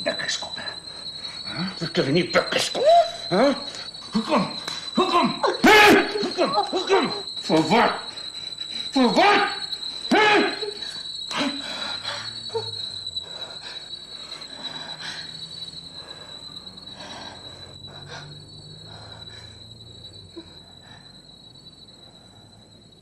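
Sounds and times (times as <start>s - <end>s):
soft breath-like noises: 0.0s - 5.4s, 6.9s - 10.1s, 10.7s - 23.0s
low hum: 0.0s - 9.0s, 10.7s - 23.0s
fainter higher tone: 0.0s - 23.0s
steady high-pitched tone: 0.0s - 23.0s.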